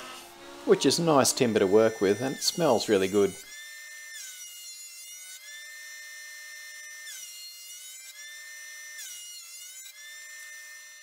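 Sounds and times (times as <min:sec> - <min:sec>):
jointer whining while cutting wood: 0:00.0 - 0:11.0.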